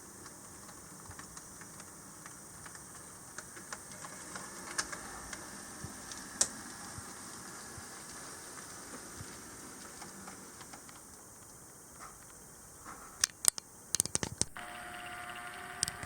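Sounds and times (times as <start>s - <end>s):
model train wheels clicking: 0.0s - 14.6s.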